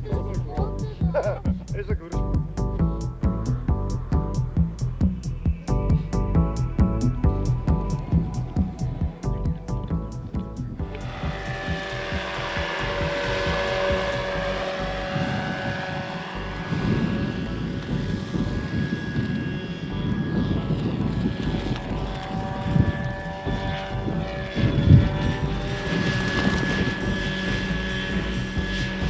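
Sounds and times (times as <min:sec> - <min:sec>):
helicopter rotor noise: 0:00.0 - 0:29.0
model helicopter motor whine: 0:04.8 - 0:29.0.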